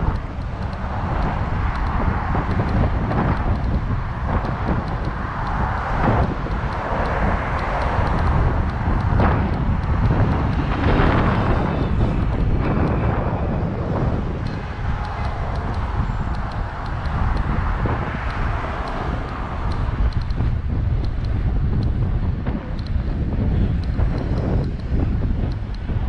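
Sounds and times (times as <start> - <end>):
traffic noise: 0.0 - 26.0
wind buffeting microphone: 0.0 - 26.0.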